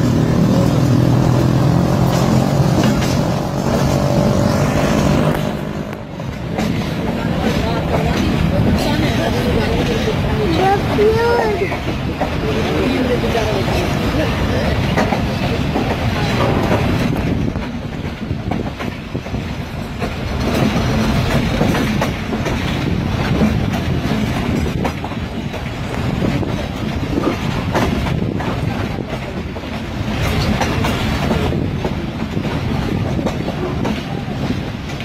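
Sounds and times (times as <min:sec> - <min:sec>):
train wheel and rail noise: 0:00.0 - 0:35.0
wheels clicking over rail joints: 0:00.0 - 0:35.0.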